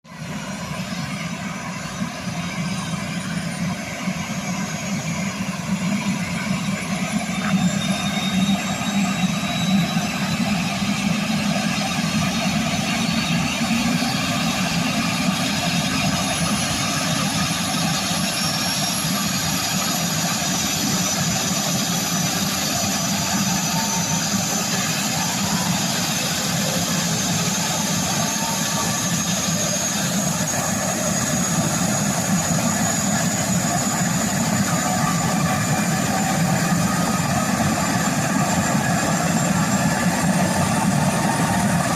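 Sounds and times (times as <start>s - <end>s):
faint high turbine whine: 0.1s - 41.9s
helicopter rotor chop: 0.1s - 41.9s.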